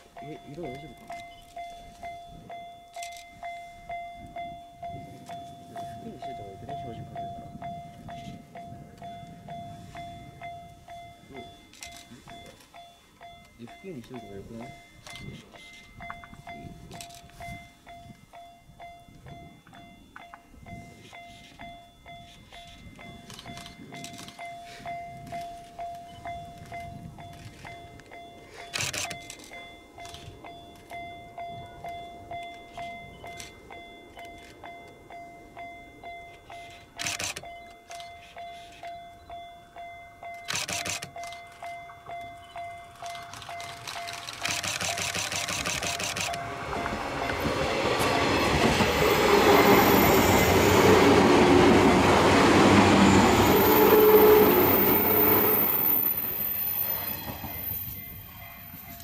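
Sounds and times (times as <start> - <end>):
level-crossing warning bell dinging: 0.0 - 59.0
train wheels rumbling on rails: 0.0 - 59.0.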